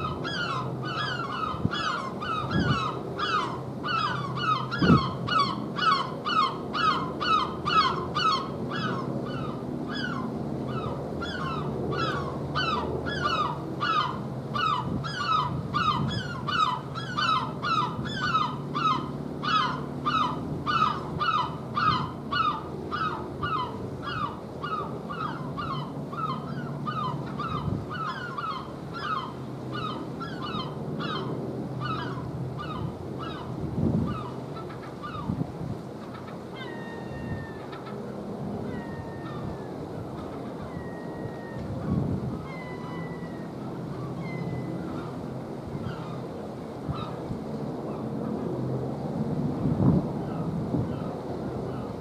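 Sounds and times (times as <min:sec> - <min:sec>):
bird calling: 0:00.0 - 0:35.4, 0:36.0 - 0:47.2.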